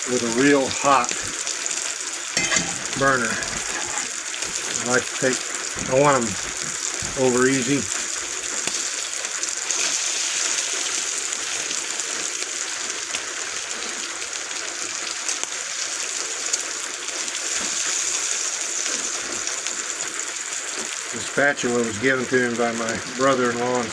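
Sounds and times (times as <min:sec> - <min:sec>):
bacon sizzling on a griddle: 0:00.0 - 0:23.9.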